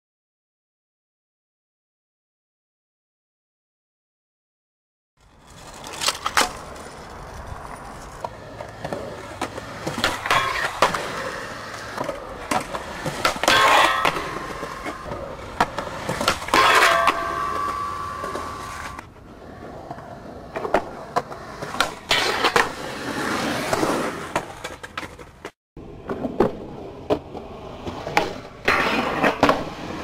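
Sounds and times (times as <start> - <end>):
skateboard grinding metal rail: 5.2 - 30.0
skateboard wheels rolling on concrete: 5.2 - 30.0
skateboard clacks: 5.4 - 30.0.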